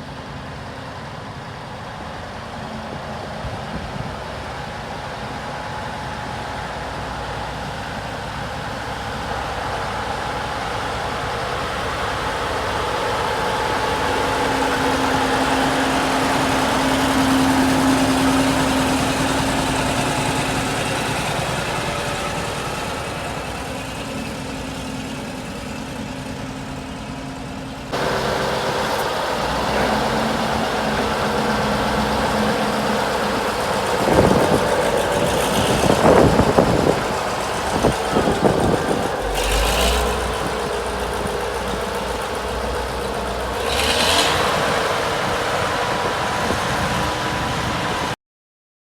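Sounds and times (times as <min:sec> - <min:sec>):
tractor diesel engine running: 0:00.0 - 0:48.2.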